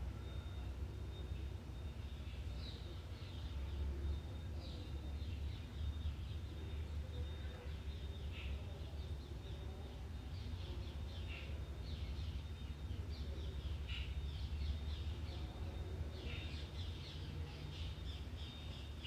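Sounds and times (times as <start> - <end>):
low steady rumble: 0.0 - 19.0
small birds chirping: 0.1 - 19.0.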